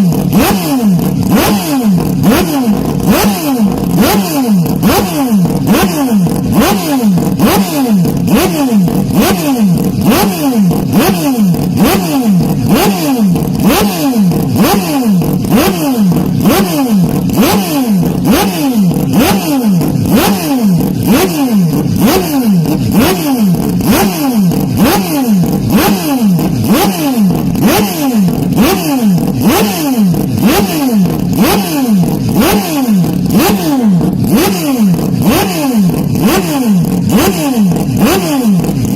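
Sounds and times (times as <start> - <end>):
racing car engine revving: 0.0 - 38.9.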